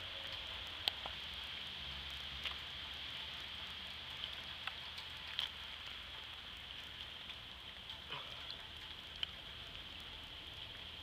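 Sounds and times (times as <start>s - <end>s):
light rain on water: 0.0s - 11.0s.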